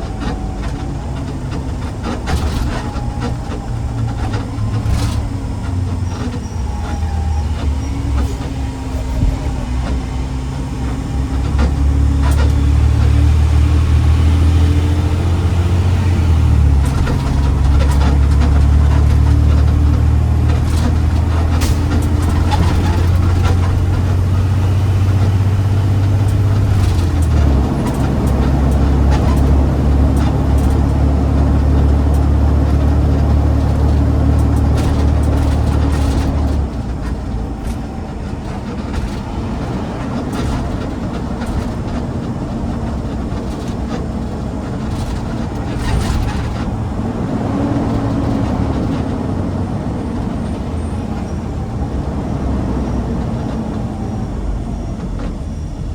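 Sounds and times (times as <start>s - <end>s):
diesel truck engine droning: 0.0s - 55.9s.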